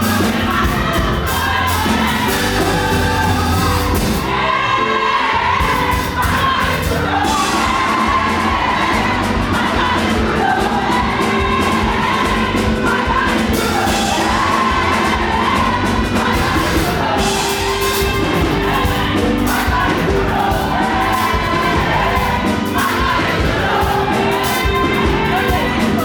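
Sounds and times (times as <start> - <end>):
crowd whooping and shouting: 0.0 - 26.0
gospel band with drum beat: 0.0 - 26.0
group singing: 0.0 - 26.0.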